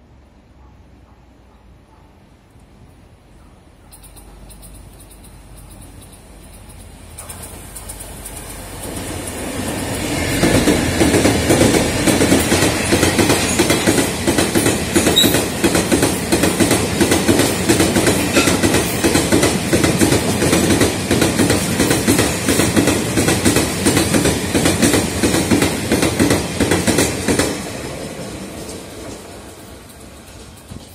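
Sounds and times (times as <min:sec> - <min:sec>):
train wheels clattering over rail joints: 0:04.0 - 0:30.9.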